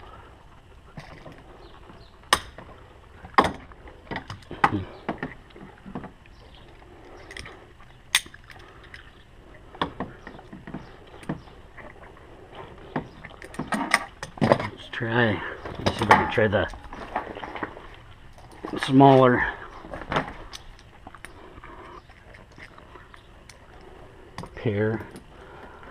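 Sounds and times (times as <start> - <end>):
rustling and scraping: 0.5 - 25.9.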